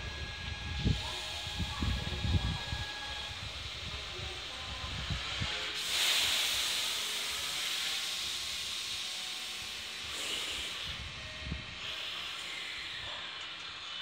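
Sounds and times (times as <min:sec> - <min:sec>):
compressed air hissing: 0:00.6 - 0:13.0.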